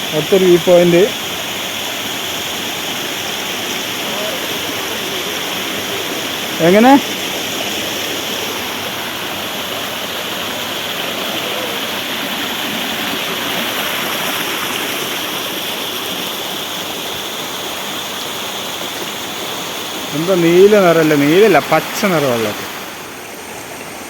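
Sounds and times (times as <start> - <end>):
waterfall and stream rushing: 0.0 - 24.0.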